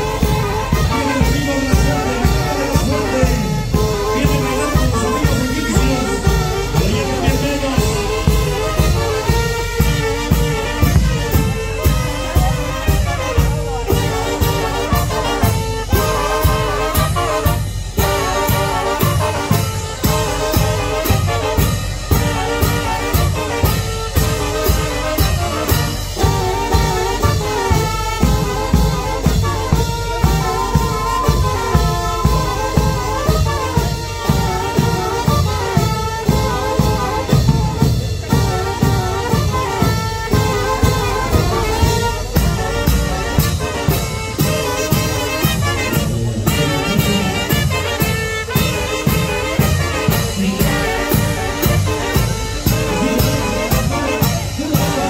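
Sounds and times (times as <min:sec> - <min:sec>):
brass band playing: 0:00.0 - 0:55.0
steady drum beat: 0:00.0 - 0:55.0.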